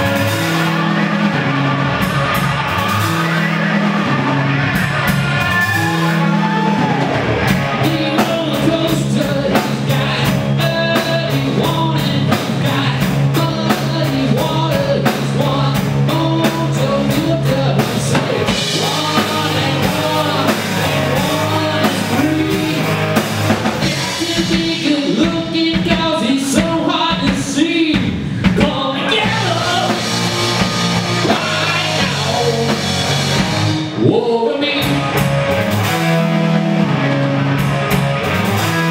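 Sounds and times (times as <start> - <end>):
distorted electric guitars: 0.0 - 38.9
drum kit with busy cymbals: 0.0 - 38.9
electric bass: 0.0 - 38.9
man singing: 2.8 - 23.2, 23.8 - 35.2.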